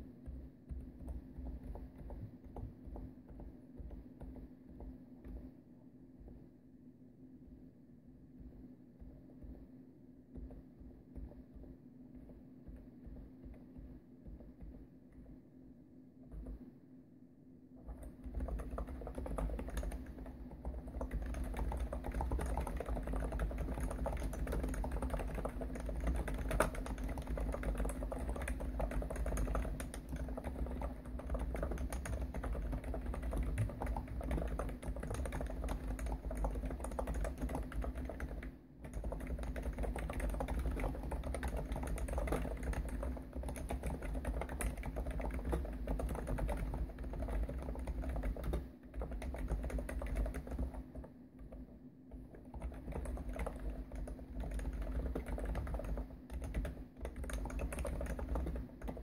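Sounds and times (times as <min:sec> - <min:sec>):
fast typing on keyboard: 0:00.0 - 0:05.5, 0:10.4 - 0:14.8, 0:17.8 - 0:59.0
low desk hum: 0:00.0 - 0:59.0.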